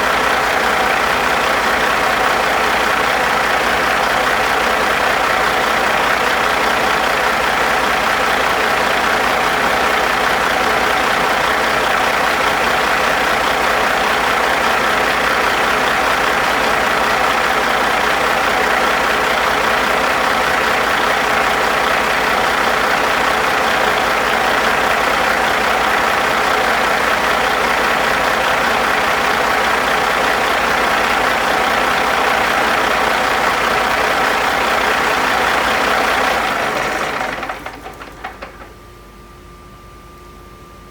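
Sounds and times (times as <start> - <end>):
diesel engine running steadily: 0.0 - 39.1.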